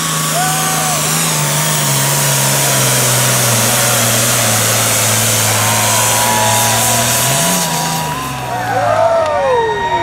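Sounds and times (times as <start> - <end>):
tractor engine at high revs: 0.0 - 10.0.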